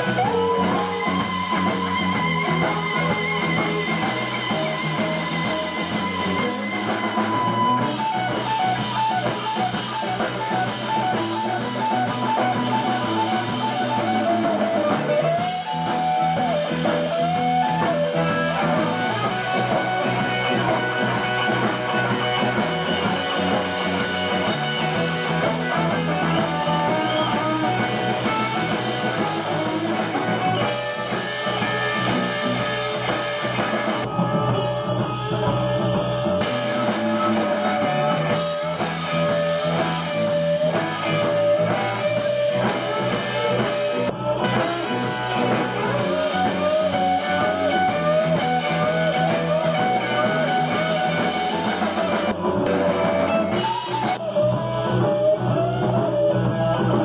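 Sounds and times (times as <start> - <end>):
drums: 0.0 - 57.0
electric blues band: 0.0 - 57.0
lead guitar with bent notes: 0.0 - 57.0.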